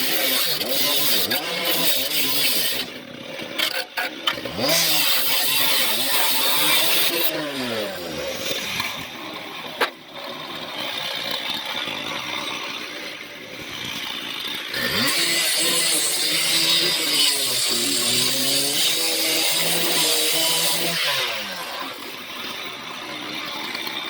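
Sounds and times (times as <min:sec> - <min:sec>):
small gas engine revving: 0:00.0 - 0:24.0.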